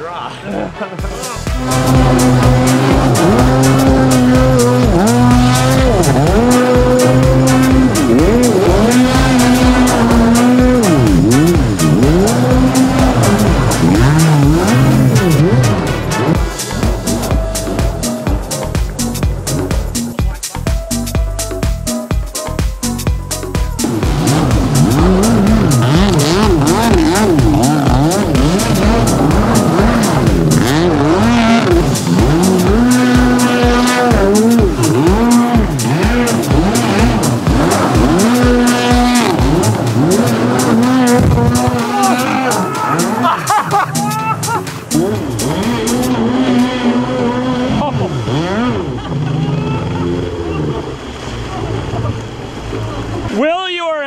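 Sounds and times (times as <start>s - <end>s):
loud music with steady beat: 0.0s - 47.2s
sliding synth line: 1.2s - 52.2s.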